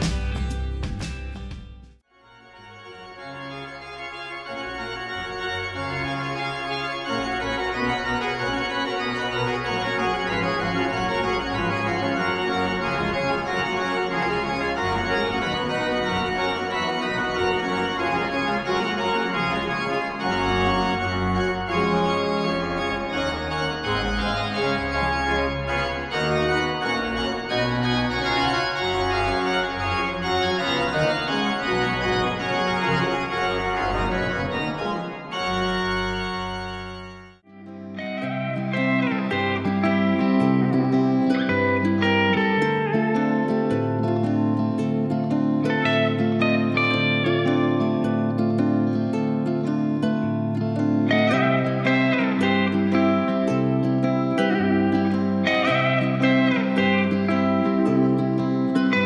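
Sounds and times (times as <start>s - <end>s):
organ playing sustained chords: 2.1s - 59.0s.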